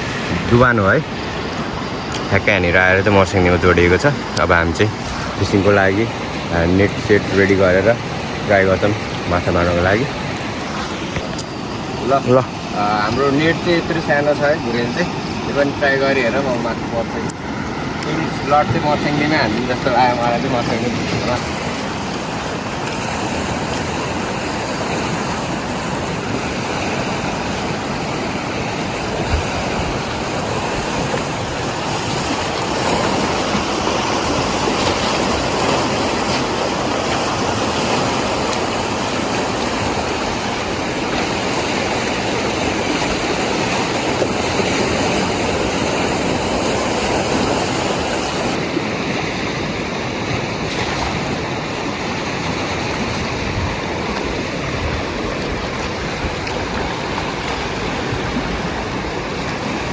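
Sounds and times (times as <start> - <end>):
fast-flowing river rushing: 0.0 - 59.9.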